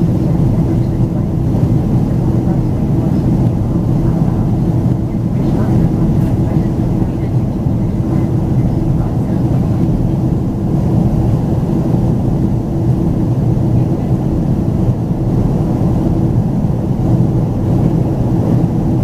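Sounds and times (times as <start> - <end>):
airplane cabin rumble: 0.0 - 19.0
steady hum: 0.0 - 19.0.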